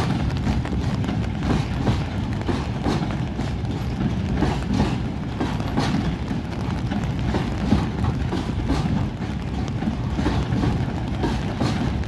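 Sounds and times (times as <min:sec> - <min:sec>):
freight train rumble: 0:00.0 - 0:12.0
wheels clacking over rail joints: 0:00.0 - 0:12.0.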